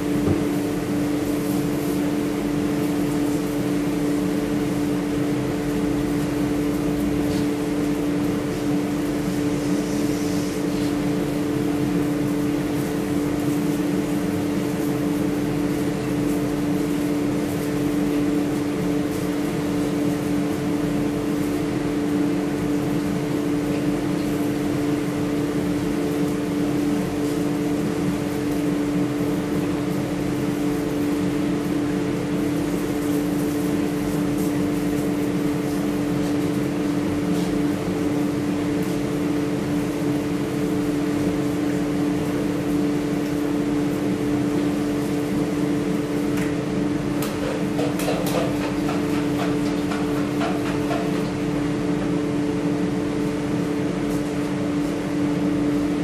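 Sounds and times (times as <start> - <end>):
ventilation fan humming: 0.0 - 56.0.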